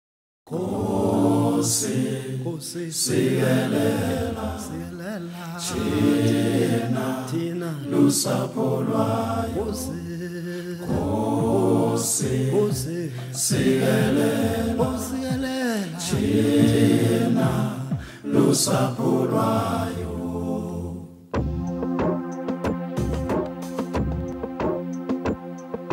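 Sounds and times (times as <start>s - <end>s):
a cappella choir chanting: 0.5s - 21.4s.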